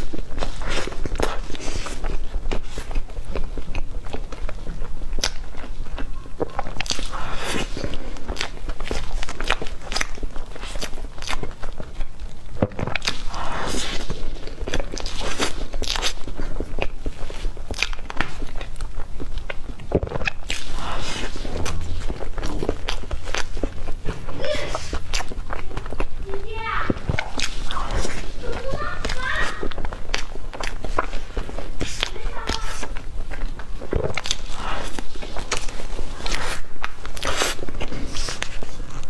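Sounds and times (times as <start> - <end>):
wet chewing and mouth sounds: 0.0 - 39.0.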